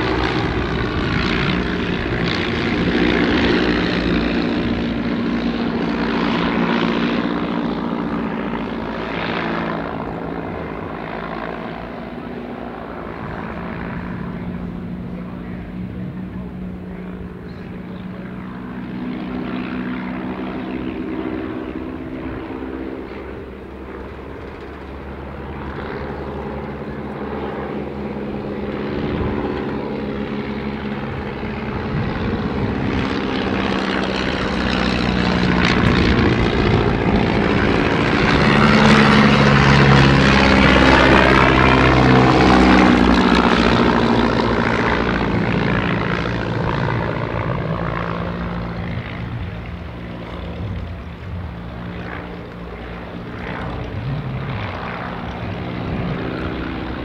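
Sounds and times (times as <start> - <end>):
biplane engines flying past: 0.0 - 57.0.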